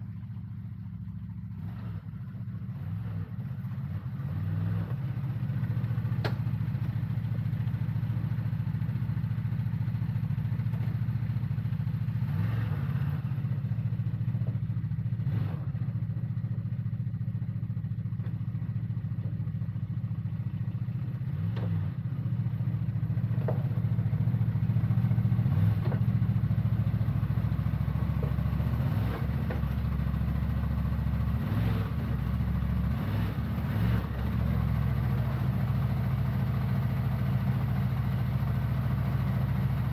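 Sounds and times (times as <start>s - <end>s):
engine running at low revs: 0.0s - 39.9s.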